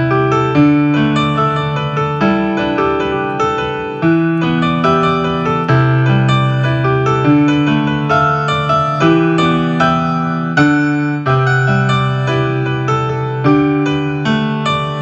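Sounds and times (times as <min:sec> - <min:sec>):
digital piano playing: 0:00.0 - 0:15.0.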